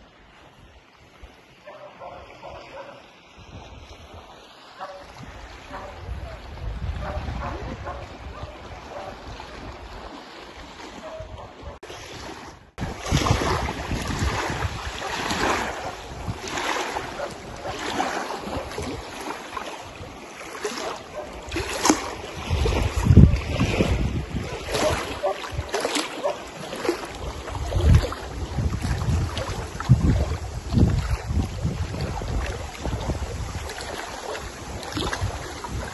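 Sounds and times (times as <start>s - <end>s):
waves lapping on rocky shore: 0.0s - 35.9s
wind buffeting microphone: 2.0s - 10.1s, 11.0s - 11.8s, 12.5s - 35.9s.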